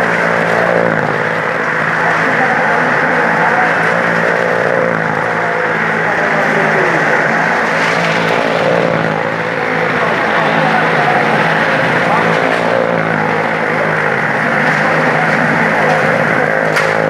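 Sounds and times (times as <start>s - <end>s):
noisy rush: 0.0s - 17.0s
vehicle engine droning: 0.0s - 17.0s.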